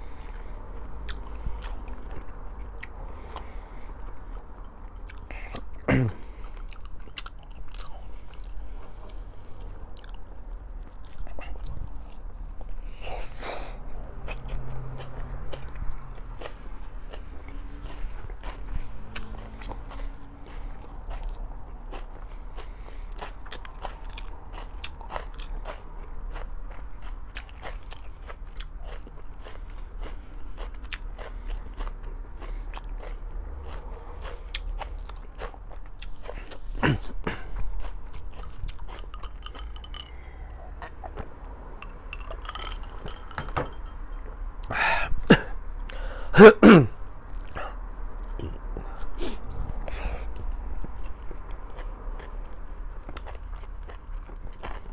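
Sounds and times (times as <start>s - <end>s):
chewing with wet mouth clicks: 0.2s - 12.8s, 14.2s - 43.3s, 49.8s - 54.9s.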